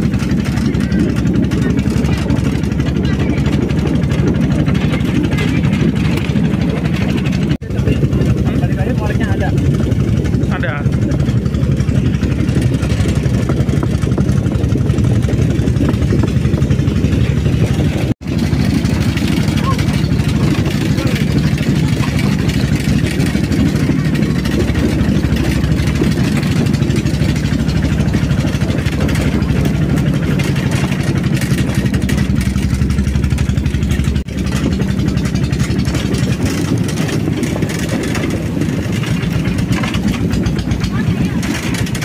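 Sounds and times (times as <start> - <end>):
dense rattle: 0.0 - 42.0
motorcycle engine running: 0.0 - 42.0.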